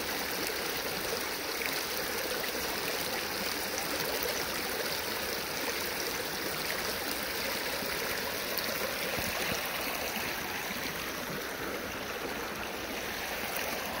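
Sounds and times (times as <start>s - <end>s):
creek babbling over stones: 0.0s - 14.0s.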